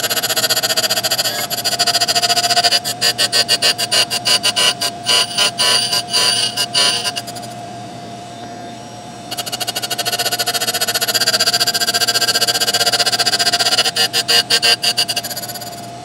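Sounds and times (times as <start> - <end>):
grinding wheel on metal: 0.0 - 7.6, 9.2 - 16.0
grinder motor whine: 0.0 - 16.0.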